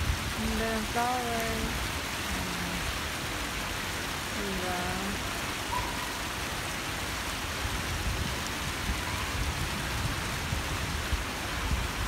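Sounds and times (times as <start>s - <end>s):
rain falling on paving and water: 0.0s - 12.0s.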